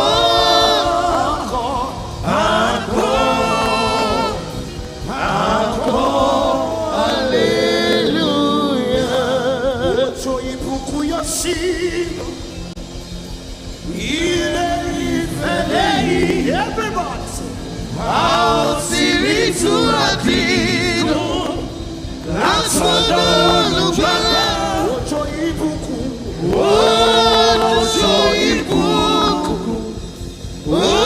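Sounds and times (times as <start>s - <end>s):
gospel worship singing with music: 0.0s - 31.0s.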